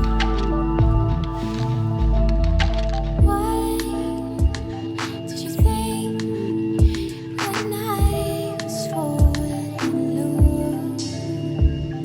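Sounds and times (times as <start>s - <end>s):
mellow instrumental music: 0.0s - 12.0s.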